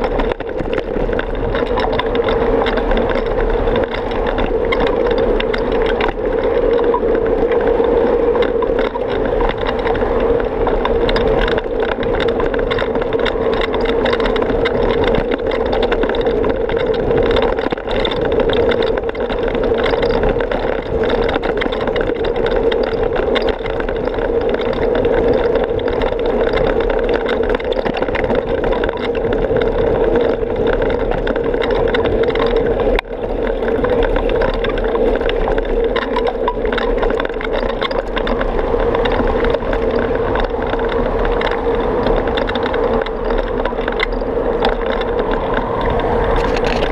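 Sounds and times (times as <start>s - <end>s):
bicycle road noise: 0.0s - 46.9s
rushing wind: 0.0s - 46.9s.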